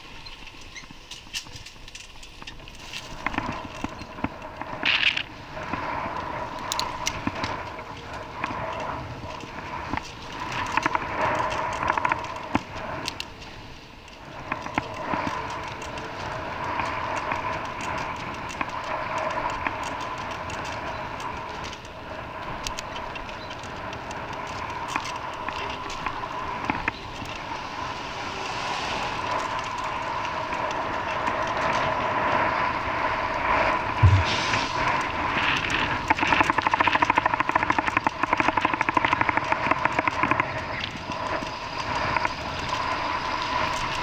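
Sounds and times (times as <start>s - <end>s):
vehicle running noise with whine: 0.0s - 44.0s.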